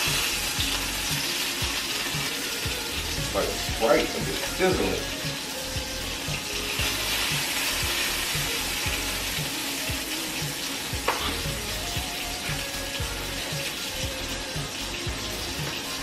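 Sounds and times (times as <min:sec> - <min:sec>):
background music with low beat: 0:00.0 - 0:16.0
sausage sizzling in a pan: 0:00.0 - 0:16.0.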